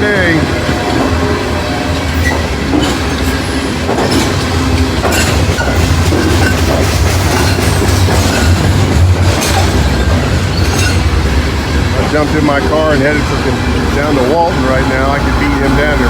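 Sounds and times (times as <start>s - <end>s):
freight train rumbling past: 0.0s - 16.0s
wheels clacking over rail joints: 0.0s - 16.0s.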